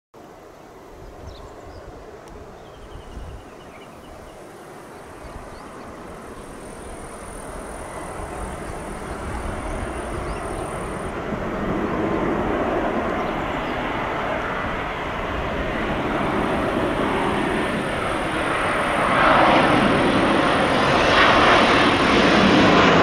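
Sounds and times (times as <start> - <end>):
jet airliner engine roar: 0.3 - 23.0.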